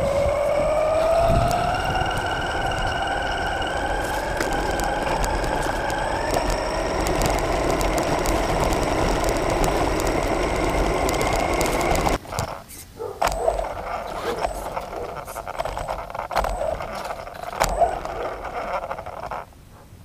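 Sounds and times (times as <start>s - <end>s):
model car motor whine: 0.0s - 12.6s, 13.2s - 19.5s
sharp clicks: 0.0s - 19.5s
tyres and chassis rattling: 0.0s - 20.0s.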